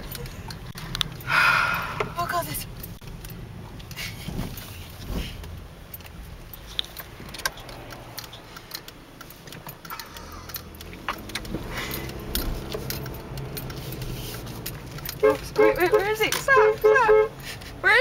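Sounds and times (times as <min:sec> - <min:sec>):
car cabin rumble: 0:00.0 - 0:18.0.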